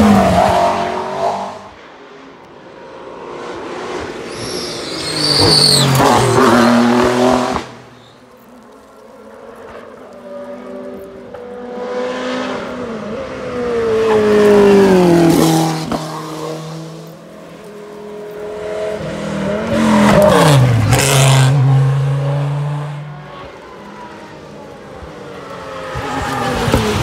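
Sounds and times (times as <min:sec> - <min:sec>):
race cars passing at speed: 0:00.0 - 0:27.0.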